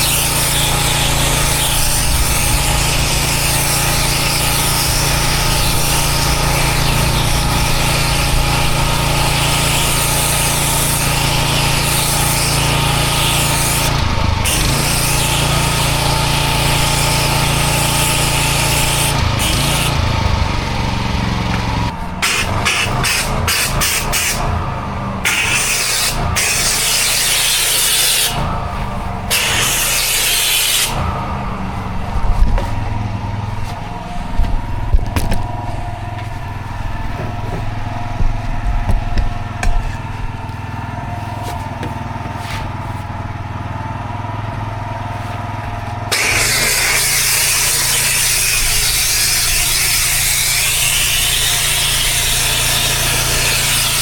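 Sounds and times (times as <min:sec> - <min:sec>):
pressure washer engine and pump: 0:00.0 - 0:54.0.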